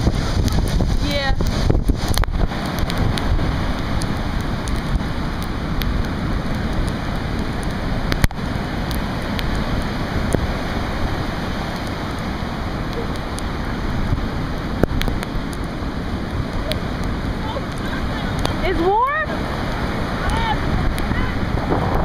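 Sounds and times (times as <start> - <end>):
heavy surf breaking: 0.0 - 22.0
strong wind buffeting microphone: 0.0 - 22.0.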